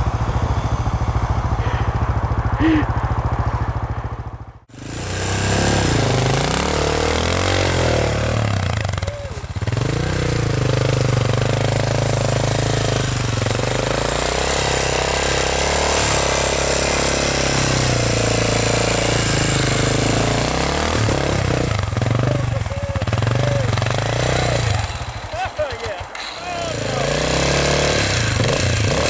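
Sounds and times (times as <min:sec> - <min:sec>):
motorcycle engine running: 0:00.0 - 0:29.0
wind and tyre hiss: 0:04.9 - 0:29.0.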